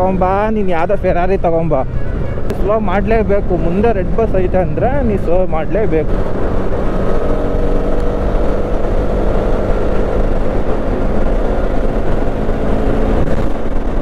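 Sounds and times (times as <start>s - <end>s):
motorcycle engine running: 1.8s - 14.0s
wind rumble on microphone: 1.9s - 14.0s.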